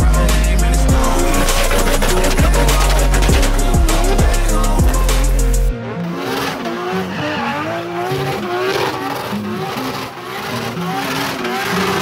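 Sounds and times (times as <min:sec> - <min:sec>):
car engine revving hard: 0:00.0 - 0:12.0
tyres squealing: 0:00.1 - 0:12.0.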